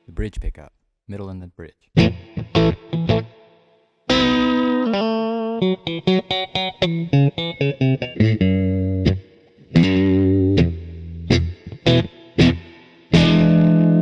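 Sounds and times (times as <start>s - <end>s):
overdriven electric guitar: 2.0s - 14.0s.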